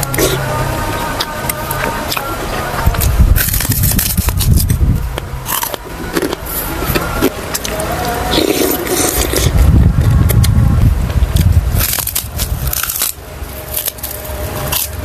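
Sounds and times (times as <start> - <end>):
chewing noodle soup: 0.0 - 10.4, 11.3 - 15.0
cracker crunching: 0.0 - 15.0.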